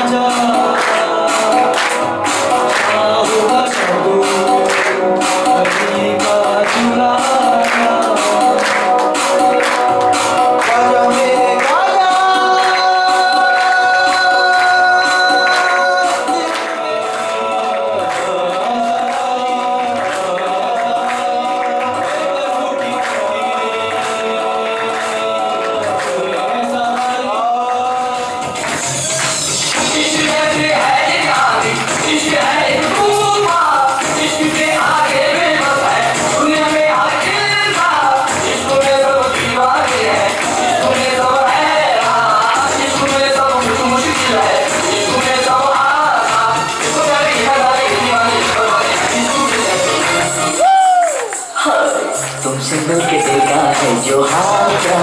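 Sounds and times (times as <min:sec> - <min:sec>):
men singing together: 0:00.0 - 0:50.6, 0:52.8 - 0:55.0
rhythmic hand claps: 0:00.0 - 0:55.0.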